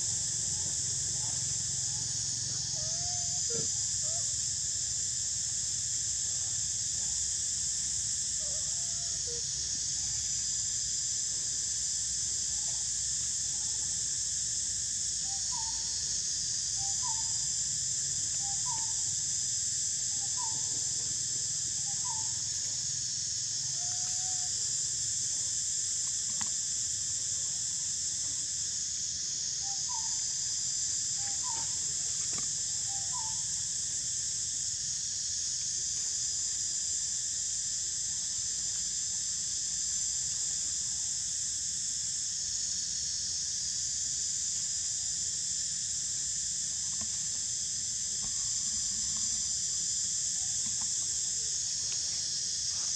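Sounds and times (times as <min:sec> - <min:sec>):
insect chorus drone: 0:00.0 - 0:52.9.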